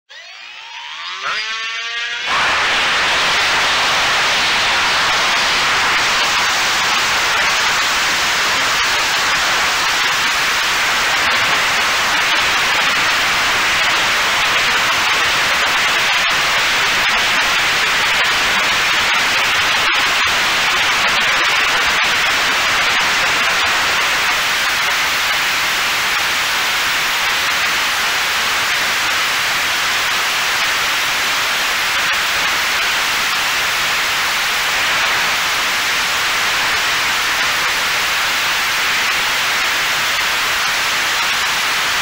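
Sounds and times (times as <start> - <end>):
loud static-like hiss: 2.1 - 42.0.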